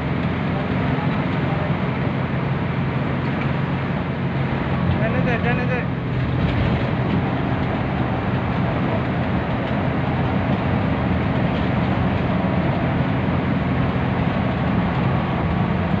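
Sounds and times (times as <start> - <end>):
bus engine hum: 0.0 - 16.0
tyre and road noise: 0.0 - 16.0.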